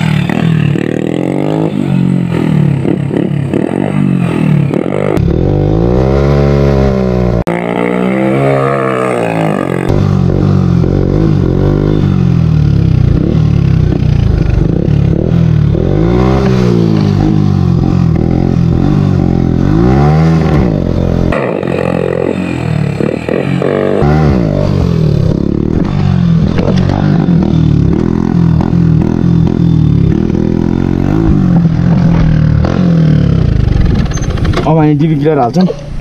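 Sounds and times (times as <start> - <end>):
motorcycle engine revving: 0.0 - 35.5.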